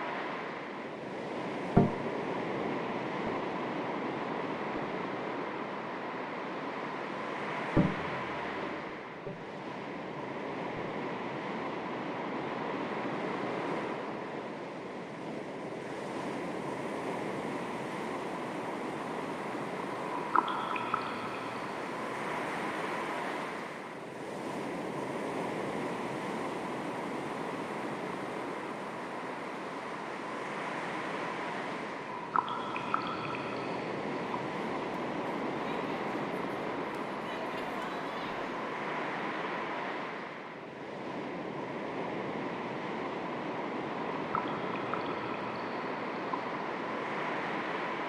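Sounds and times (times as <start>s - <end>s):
small waves lapping on shore: 0.0s - 48.0s.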